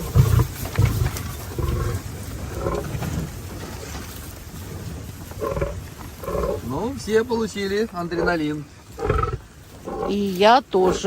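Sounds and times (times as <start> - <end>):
lions growling and roaring: 0.0 - 11.0.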